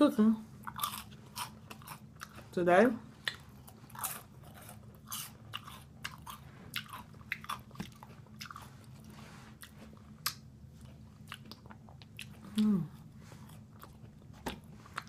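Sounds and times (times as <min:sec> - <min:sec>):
person chewing crispy food: 0:00.6 - 0:02.6, 0:03.2 - 0:15.0.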